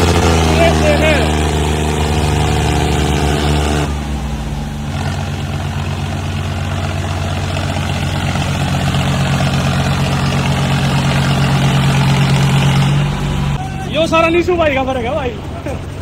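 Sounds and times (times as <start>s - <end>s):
tractor diesel engine driving by: 0.0s - 16.0s
tractor engines at high revs: 0.0s - 16.0s.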